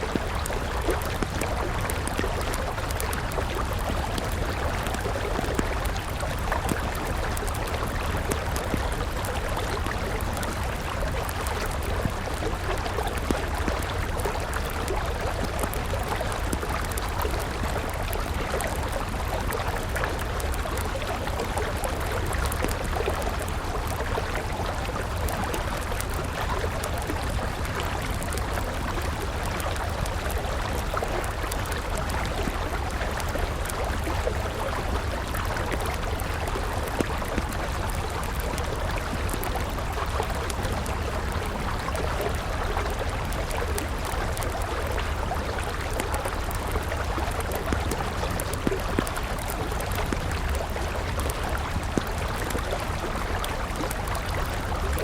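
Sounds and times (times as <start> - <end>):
campfire crackling and popping: 0.0 - 55.0
river water flowing: 0.0 - 55.0.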